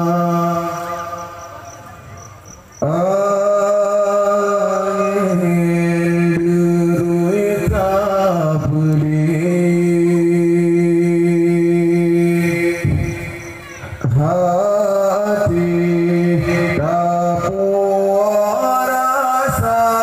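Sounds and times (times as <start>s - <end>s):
man singing into a microphone: 0.0s - 1.6s, 2.8s - 20.0s.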